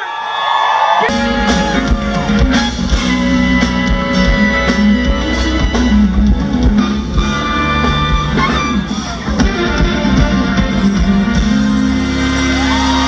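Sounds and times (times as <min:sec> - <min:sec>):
live band playing through pa: 0:01.0 - 0:13.0
sustained bass notes: 0:01.1 - 0:13.0.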